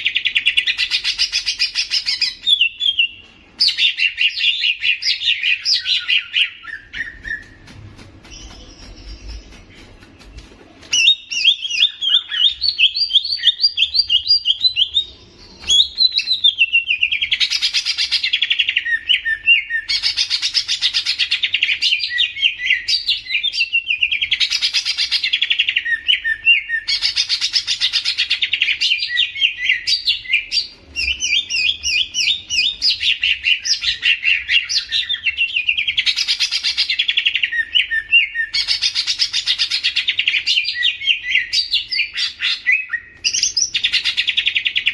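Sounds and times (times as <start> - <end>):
bird twittering song: 0.0 - 44.9.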